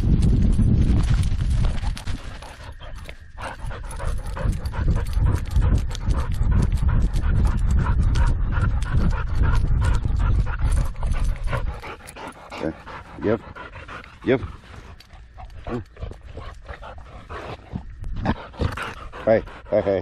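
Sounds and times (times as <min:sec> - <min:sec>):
dog panting: 0:02.3 - 0:20.0
heavy low rumble: 0:03.5 - 0:20.0.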